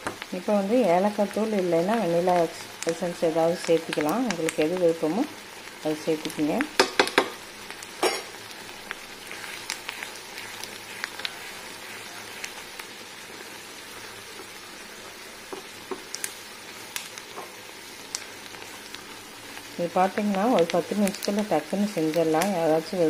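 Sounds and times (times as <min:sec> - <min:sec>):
syrup boiling with pops: 0:01.0 - 0:22.9.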